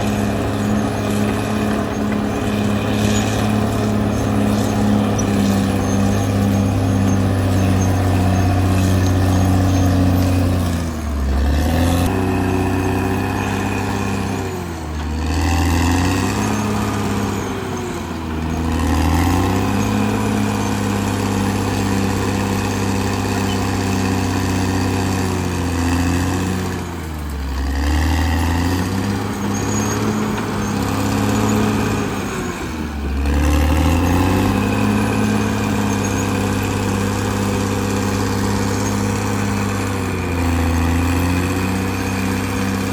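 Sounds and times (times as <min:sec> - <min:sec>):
bulldozer diesel engine running hard: 0:00.0 - 0:42.9.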